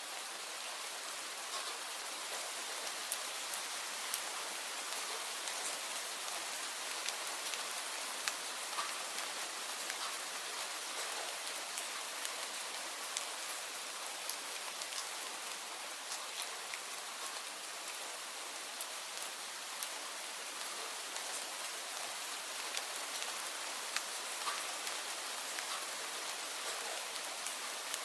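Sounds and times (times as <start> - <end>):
steady rain falling: 0.0 - 28.0
raindrops ticking on a surface: 0.2 - 28.0.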